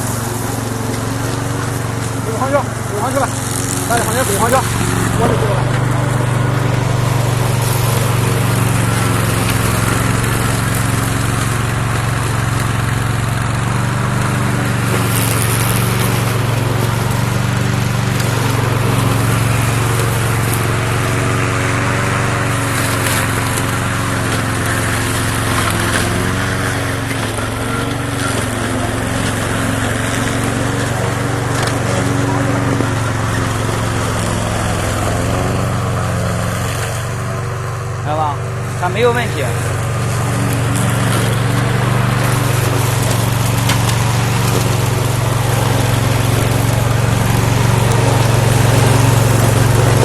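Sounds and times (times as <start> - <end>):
lawn mower engine humming: 0.0 - 50.0.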